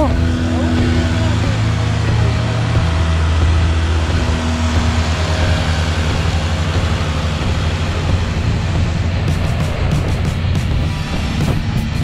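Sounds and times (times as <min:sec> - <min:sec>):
outboard motor running: 0:00.0 - 0:12.0
water rushing along hull: 0:00.0 - 0:12.0.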